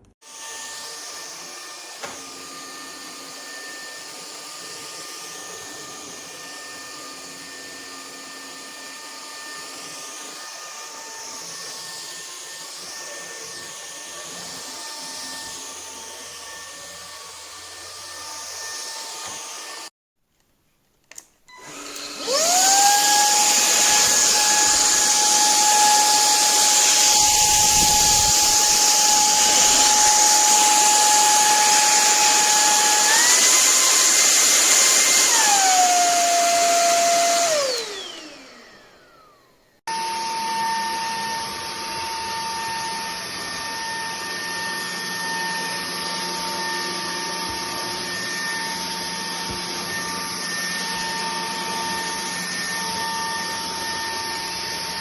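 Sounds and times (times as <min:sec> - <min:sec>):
vacuum motor whine: 0:00.3 - 0:19.9, 0:21.5 - 0:55.0.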